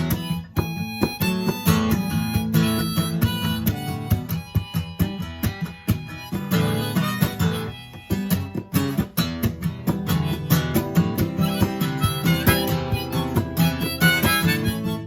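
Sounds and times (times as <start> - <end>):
acoustic guitar strumming: 0.0 - 15.0
harmonica playing: 0.0 - 15.0.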